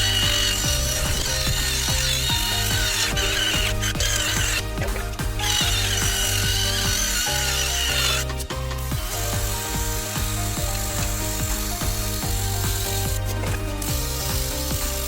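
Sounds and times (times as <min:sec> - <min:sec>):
background music with steady beat: 0:00.0 - 0:15.0
wire cup brush scrubbing metal: 0:00.0 - 0:15.0.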